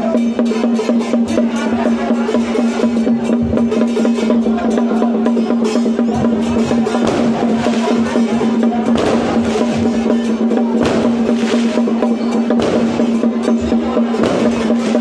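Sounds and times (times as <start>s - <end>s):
drum and wood-block strokes: 0.0s - 15.0s.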